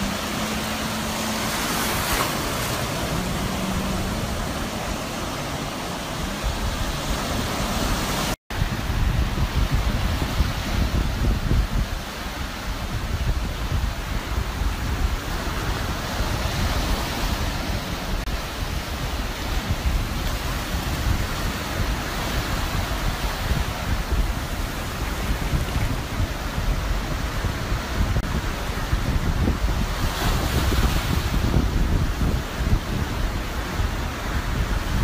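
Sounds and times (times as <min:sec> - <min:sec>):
surf breaking on shore: 0:00.0 - 0:35.0
wind buffeting microphone: 0:00.0 - 0:35.0.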